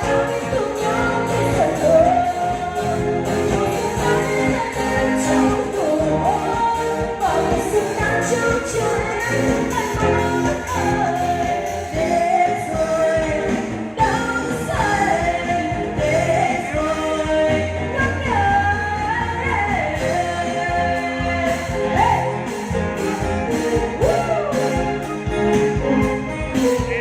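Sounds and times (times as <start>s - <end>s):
band with steady bass line: 0.0s - 27.0s
person singing: 0.0s - 27.0s.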